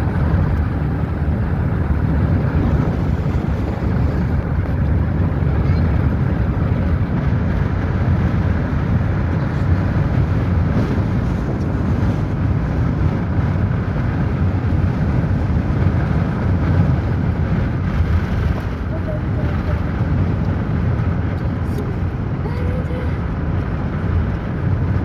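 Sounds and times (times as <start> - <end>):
moving vehicle rumble: 0.0 - 25.0.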